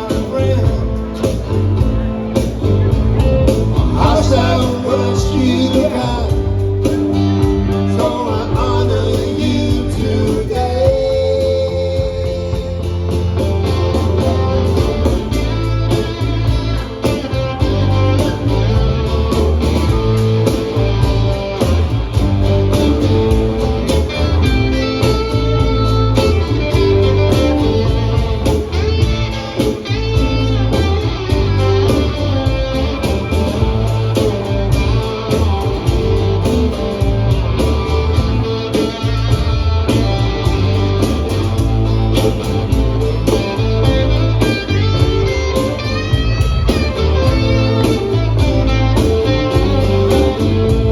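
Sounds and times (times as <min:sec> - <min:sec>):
live instrumental band: 0:00.0 - 0:50.9.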